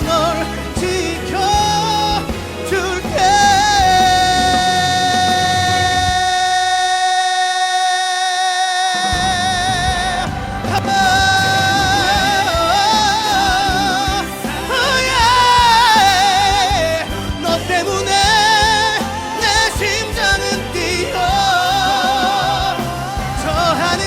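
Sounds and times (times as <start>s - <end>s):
band playing: 0.0s - 8.2s, 8.8s - 24.0s
man singing pop ballad: 0.0s - 24.0s.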